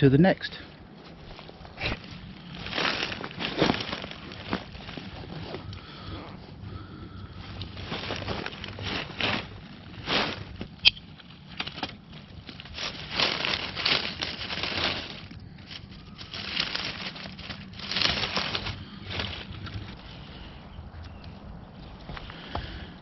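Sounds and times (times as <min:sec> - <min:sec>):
dry leaves rustling and crunching: 0:00.6 - 0:22.9.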